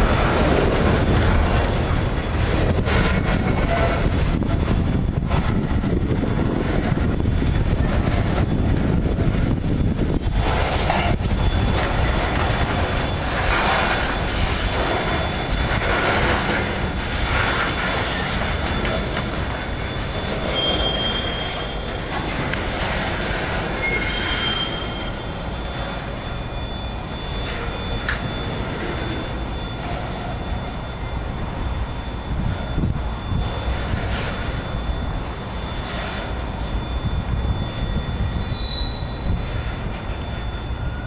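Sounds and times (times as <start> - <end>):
high wheel squeals: 0.0 - 41.0
train wheels rumbling on rails: 0.0 - 41.0.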